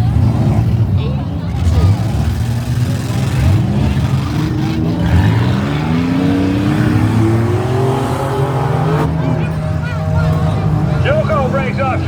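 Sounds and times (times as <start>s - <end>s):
demolition derby engines running: 0.0s - 12.0s
engine revving up: 0.0s - 12.0s.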